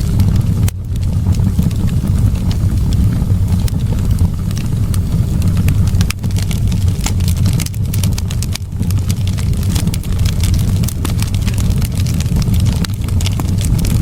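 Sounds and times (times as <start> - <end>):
fire flames rumbling: 0.0 - 14.0
wood crackling and popping: 0.0 - 14.0.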